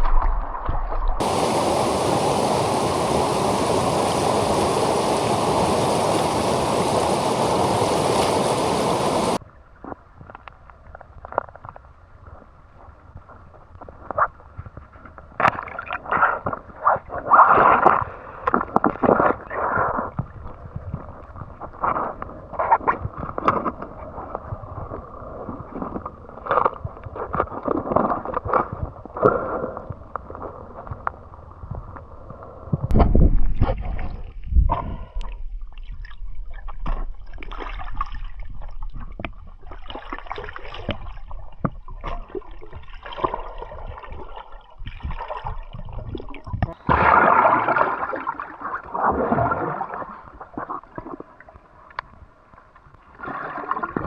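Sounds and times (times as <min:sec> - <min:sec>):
water sloshing and gurgling: 0:00.0 - 0:54.0.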